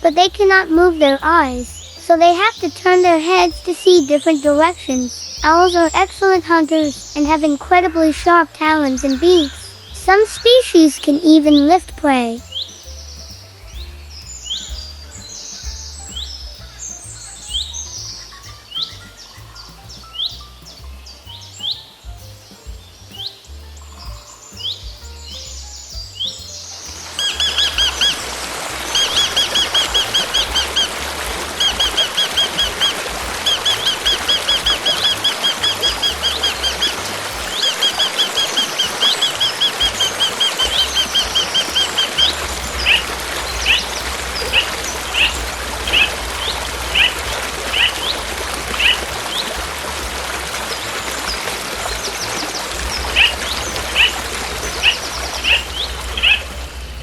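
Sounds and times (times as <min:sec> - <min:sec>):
bird chirps: 0:00.0 - 0:57.0
outdoor background noise: 0:00.0 - 0:57.0
songbird trilling: 0:00.0 - 0:57.0.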